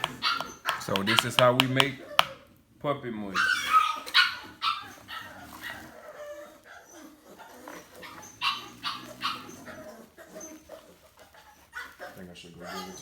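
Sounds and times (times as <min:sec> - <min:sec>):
puppies yipping and barking: 0:00.0 - 0:02.5, 0:03.3 - 0:13.0.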